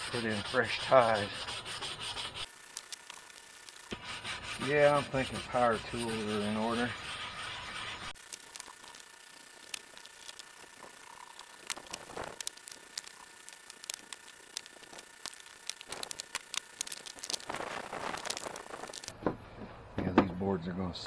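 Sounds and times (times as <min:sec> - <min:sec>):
brush scrubbing wood board: 0:00.0 - 0:19.1.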